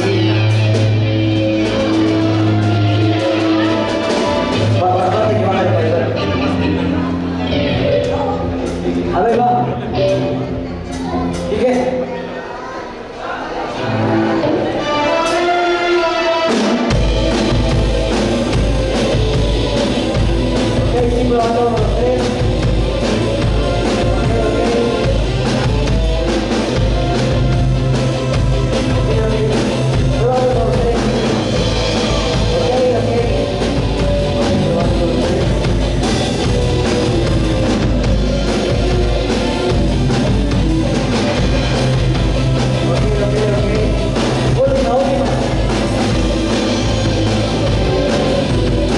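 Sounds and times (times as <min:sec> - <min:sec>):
drum kit: 0:00.0 - 0:12.2, 0:13.8 - 0:48.9
bass guitar: 0:00.0 - 0:12.4, 0:13.7 - 0:48.9
lead melody: 0:00.0 - 0:48.9.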